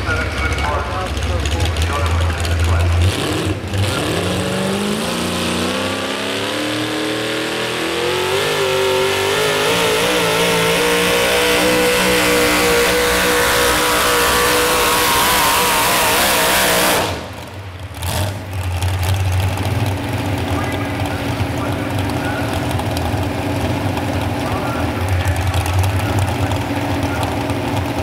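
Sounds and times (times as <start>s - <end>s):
supercharged truck engine at full throttle: 0.0s - 28.0s.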